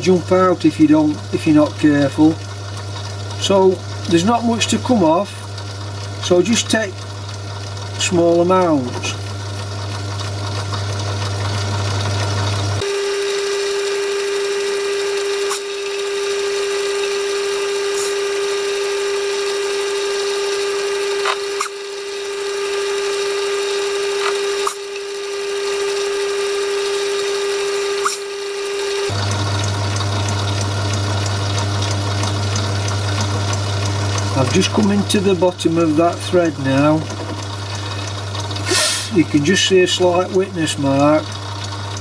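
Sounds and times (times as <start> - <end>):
lathe motor hum: 0.0 - 42.0.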